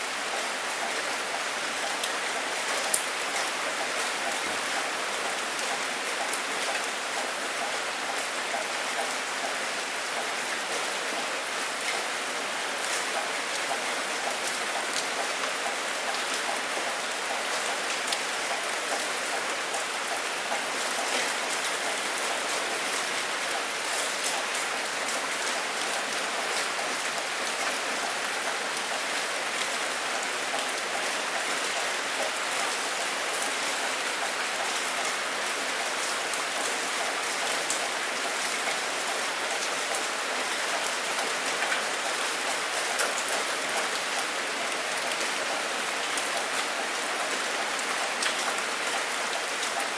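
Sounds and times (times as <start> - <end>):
steady rainfall: 0.0 - 49.9.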